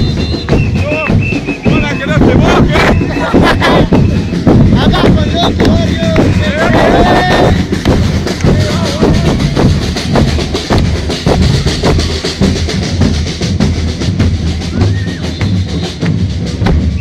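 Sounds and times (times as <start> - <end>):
drums and cymbals beating: 0.0 - 17.0.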